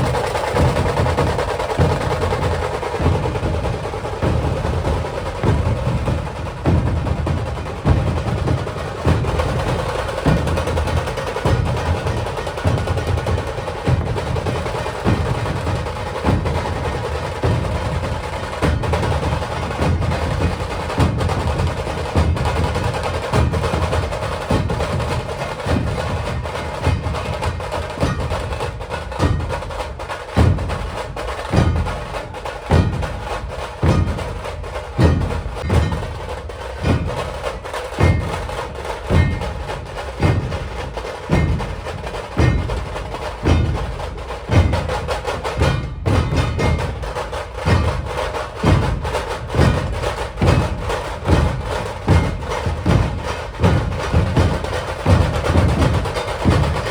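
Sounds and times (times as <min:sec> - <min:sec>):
deep drum strokes: 0:00.0 - 0:56.9
rattling drum roll: 0:00.0 - 0:56.9.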